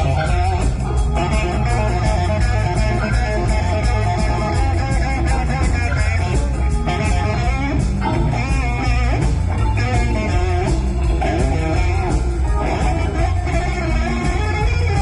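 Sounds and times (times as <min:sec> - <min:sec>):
blues-rock band playing: 0:00.0 - 0:15.0
electric guitar solo: 0:00.0 - 0:15.0.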